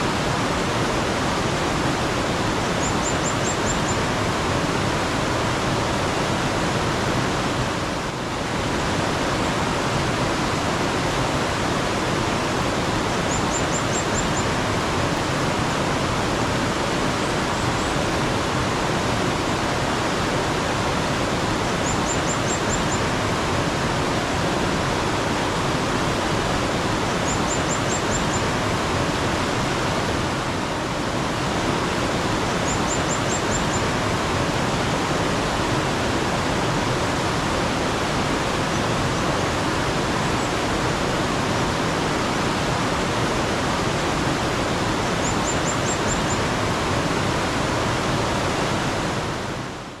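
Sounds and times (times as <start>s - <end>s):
mountain stream rushing and splashing: 0.0s - 50.0s.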